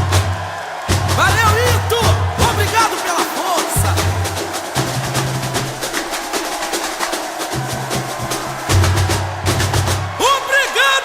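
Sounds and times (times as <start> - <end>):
drum ensemble playing fast rhythm: 0.0 - 11.0.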